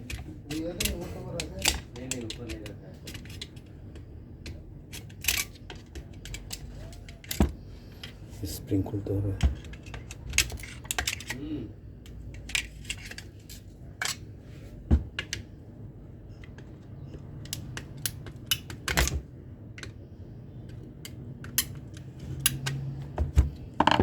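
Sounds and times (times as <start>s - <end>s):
tools and parts clicking: 0.0s - 8.2s, 9.4s - 14.3s, 16.3s - 20.0s, 20.6s - 24.0s.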